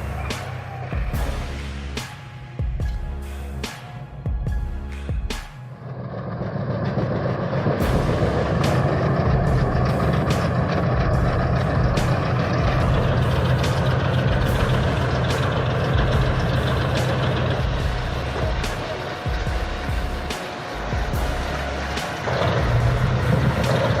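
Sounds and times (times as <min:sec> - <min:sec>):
heavy diesel engine running: 0:04.2 - 0:24.0.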